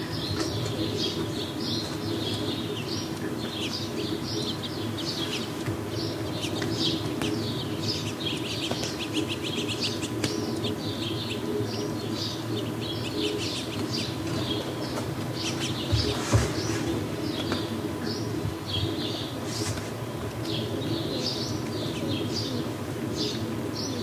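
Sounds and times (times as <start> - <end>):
songbirds chirping and chattering: 0.0 - 24.0
steady low hum: 0.0 - 24.0.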